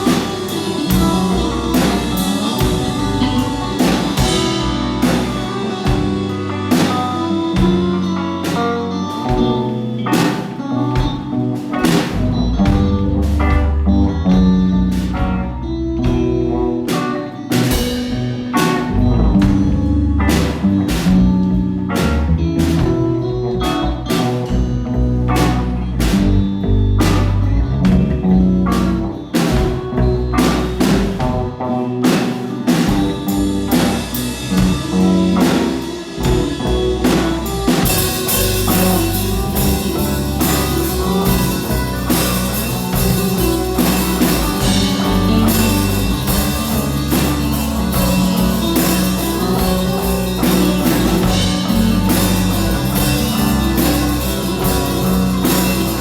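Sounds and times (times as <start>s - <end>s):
low bass notes: 0.0s - 10.2s, 10.8s - 56.0s
drum kit: 0.0s - 56.0s
electric guitar: 0.0s - 56.0s.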